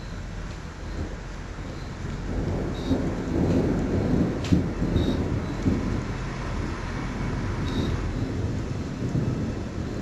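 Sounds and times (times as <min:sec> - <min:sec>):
thunder rumbling: 0:00.0 - 0:10.0
sharp thunder crack: 0:00.9 - 0:10.0.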